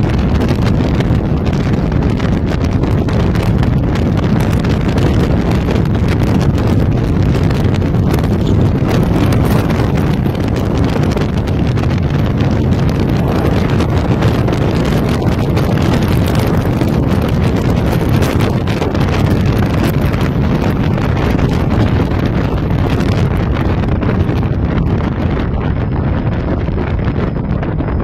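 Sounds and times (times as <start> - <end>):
car engine and tyre noise: 0.0 - 28.0
wind buffeting microphone: 0.0 - 28.0.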